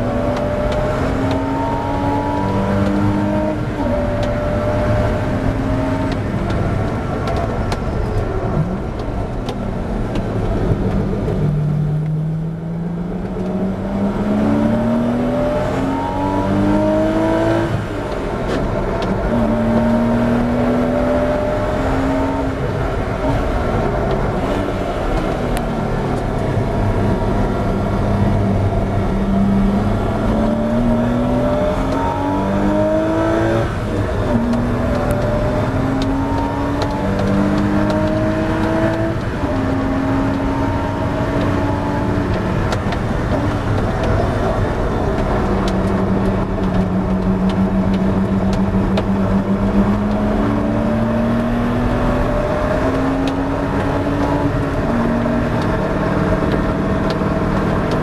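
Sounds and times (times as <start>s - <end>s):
racing engine accelerating: 0.0s - 58.0s.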